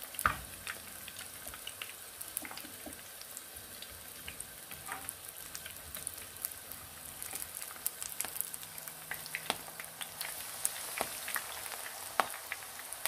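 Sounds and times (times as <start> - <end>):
leaves frying in hot oil: 0.0 - 13.0
crackles and pops of oil: 0.1 - 3.1, 3.8 - 10.4, 11.0 - 12.6.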